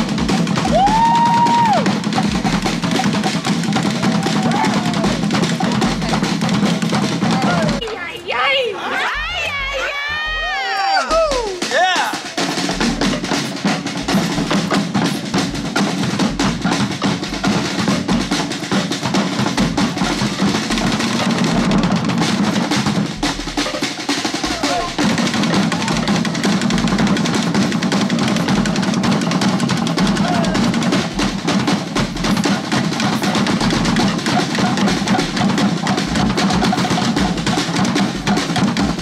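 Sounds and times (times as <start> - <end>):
fast drumming: 0.0 - 8.2, 9.0 - 39.0.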